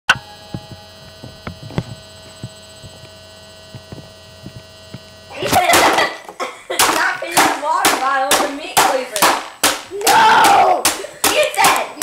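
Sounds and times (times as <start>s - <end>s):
steady electrical hum: 0.1s - 12.0s.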